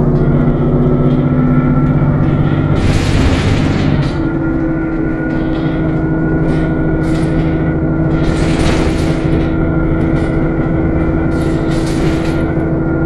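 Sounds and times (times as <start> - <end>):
bus engine drone with whine: 0.0 - 13.0.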